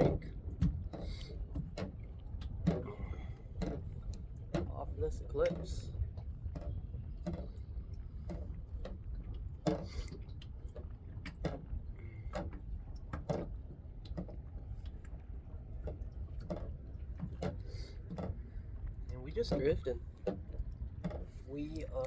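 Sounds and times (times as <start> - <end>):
light knocks and clicks of gear: 0.0 - 22.0
wind rumble on microphone: 0.0 - 22.0.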